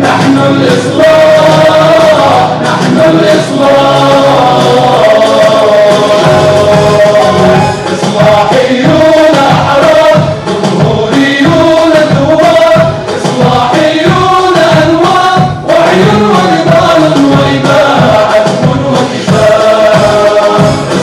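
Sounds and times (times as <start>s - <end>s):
men singing together: 0.0s - 21.0s
music with steady beat: 0.0s - 21.0s.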